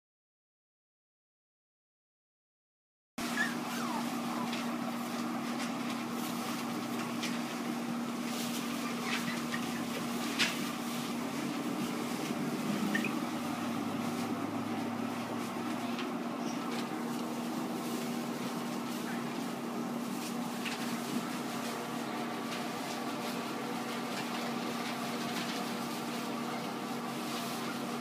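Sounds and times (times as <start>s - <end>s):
faint rustles: 3.2s - 28.0s
steady mechanical hum: 3.2s - 28.0s.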